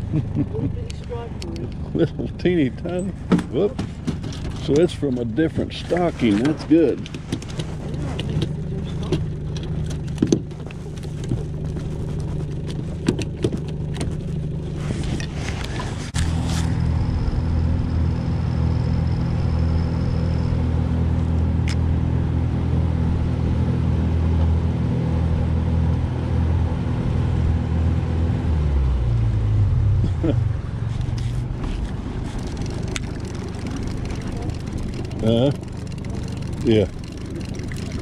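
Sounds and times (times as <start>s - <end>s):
boat motor: 0.0s - 38.0s.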